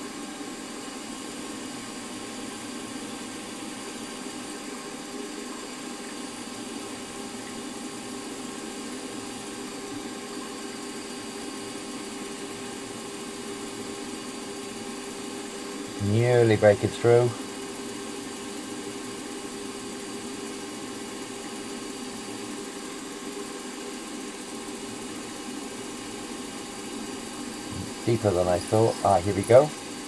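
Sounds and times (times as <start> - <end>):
milling machine spindle hum: 0.0 - 30.0.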